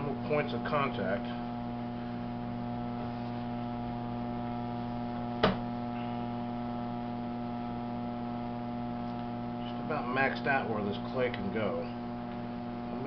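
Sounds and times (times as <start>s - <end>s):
potter's wheel motor hum: 0.0s - 13.0s.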